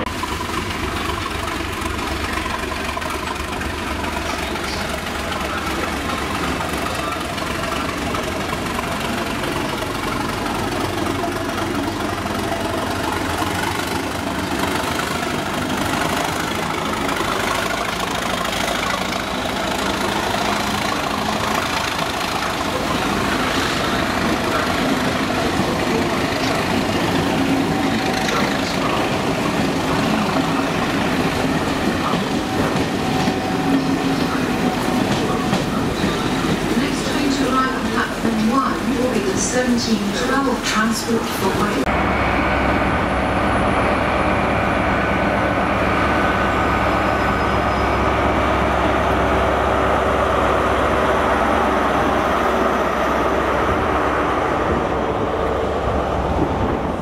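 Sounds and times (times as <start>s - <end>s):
diesel locomotive engine under power: 0.0s - 57.0s
train wheels rolling over rails: 0.0s - 57.0s.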